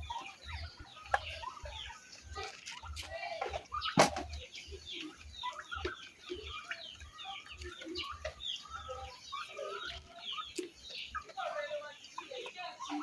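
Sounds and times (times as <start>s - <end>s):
chickens clucking and cheeping: 0.0s - 13.0s.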